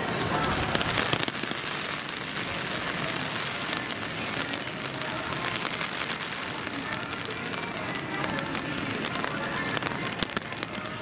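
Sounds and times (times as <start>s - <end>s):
rain falling on pavement: 0.0s - 11.0s.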